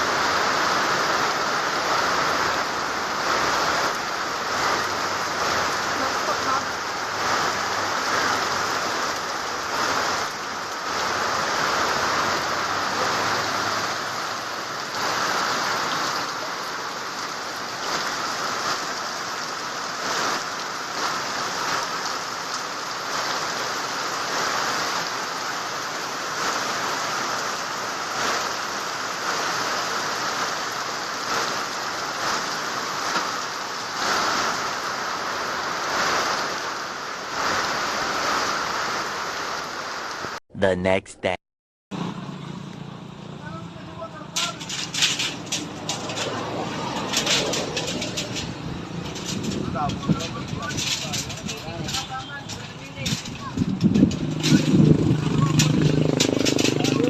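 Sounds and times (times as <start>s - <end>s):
rushing flood water: 0.0s - 40.4s, 43.2s - 57.0s.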